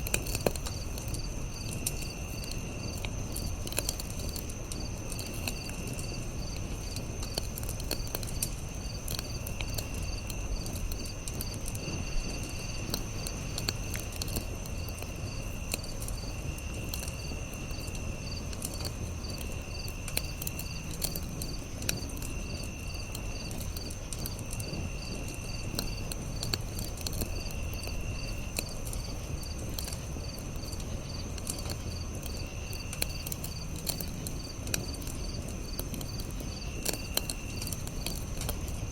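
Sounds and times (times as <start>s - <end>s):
campfire crackling and popping: 0.0s - 38.9s
crickets chirping: 0.0s - 38.9s.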